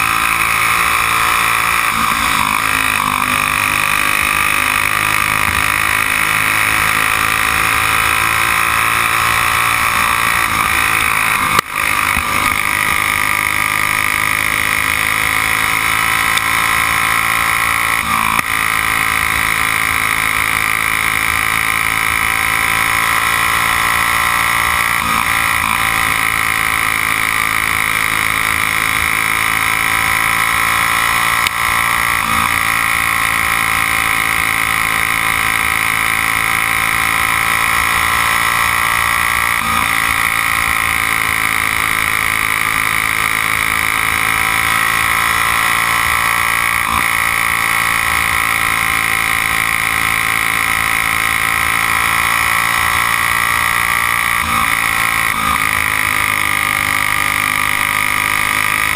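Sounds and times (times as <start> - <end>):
kart engine running hard: 0.0 - 58.9.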